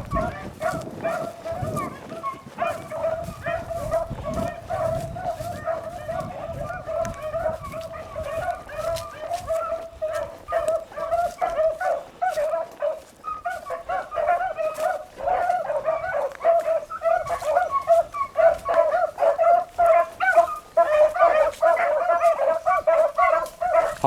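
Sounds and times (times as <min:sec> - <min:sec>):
hounds baying and yelping: 0:00.0 - 0:24.0.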